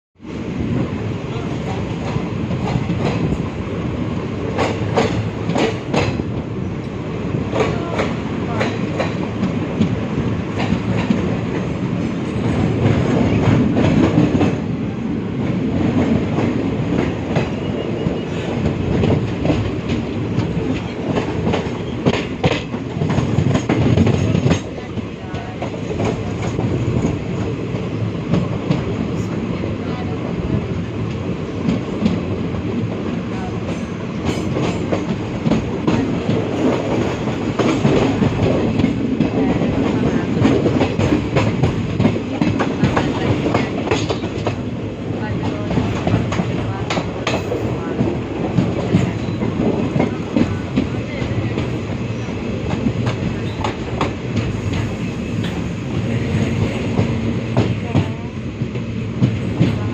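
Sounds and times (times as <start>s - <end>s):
train rumbling on rails: 0.2s - 59.9s.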